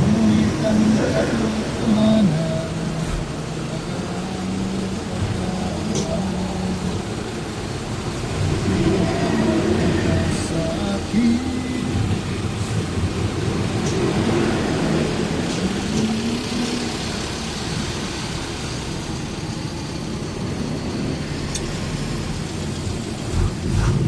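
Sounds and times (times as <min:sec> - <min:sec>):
road noise: 0:00.0 - 0:24.0
truck engine rumble: 0:00.0 - 0:24.0.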